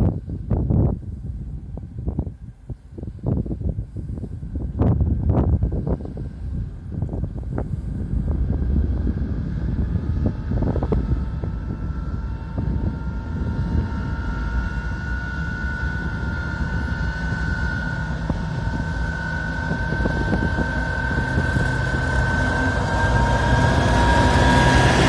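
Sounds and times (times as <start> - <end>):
diesel locomotive engine rumble: 0.0 - 25.0
high whine rising in pitch: 4.2 - 25.0.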